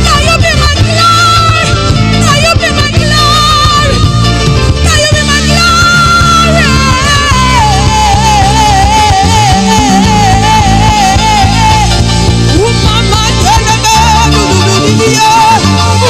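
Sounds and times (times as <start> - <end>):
gospel worship music from live band: 0.0 - 16.0.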